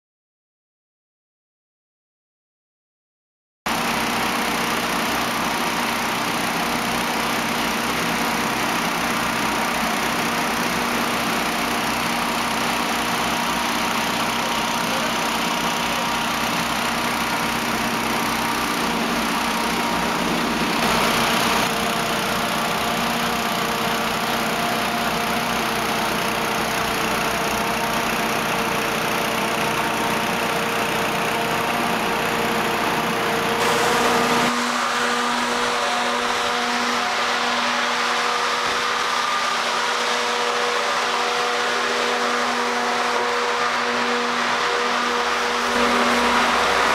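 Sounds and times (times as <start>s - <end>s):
fire engine running: 3.7s - 46.9s.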